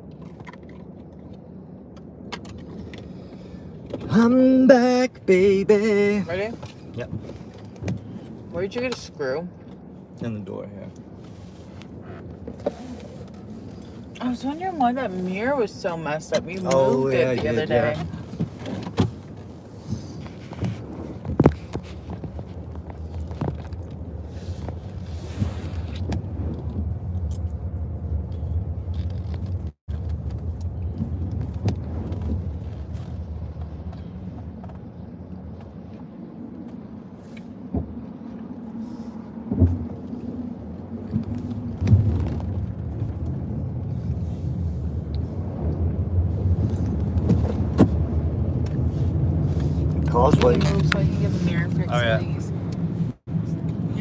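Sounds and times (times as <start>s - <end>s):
car interior road rumble: 0.0s - 54.0s.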